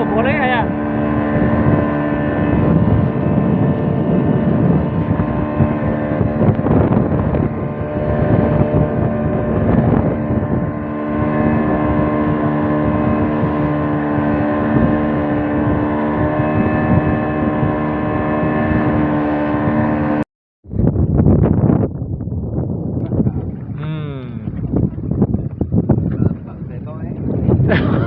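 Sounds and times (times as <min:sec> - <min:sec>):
boat engine droning: 0:00.0 - 0:20.2, 0:22.9 - 0:28.0.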